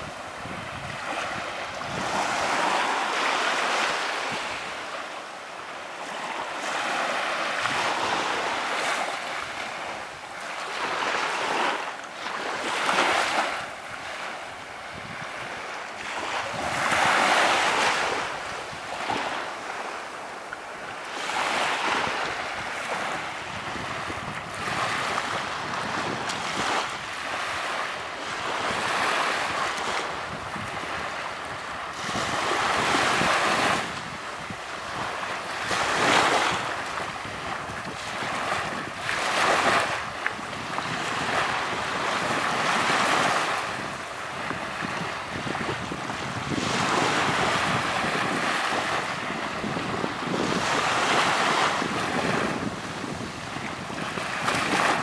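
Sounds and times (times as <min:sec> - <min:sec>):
wind noise on microphone: 0:00.0 - 0:05.4, 0:06.0 - 0:55.0
waves breaking on a beach: 0:00.0 - 0:55.0.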